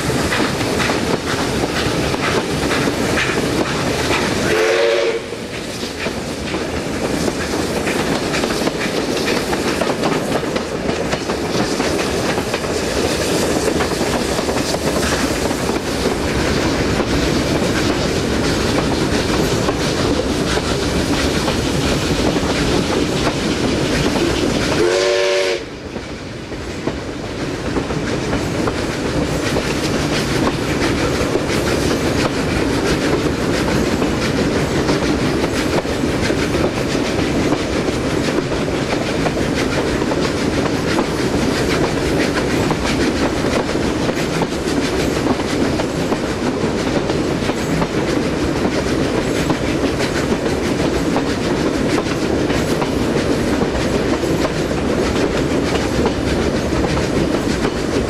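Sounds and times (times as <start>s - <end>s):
train wheels clickety-clack: 0.0s - 58.0s.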